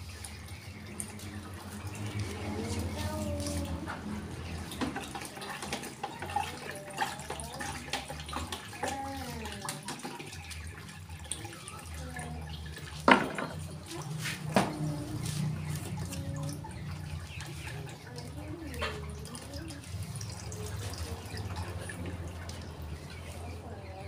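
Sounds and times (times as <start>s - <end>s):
water splashing in plastic bucket: 0.0s - 23.6s.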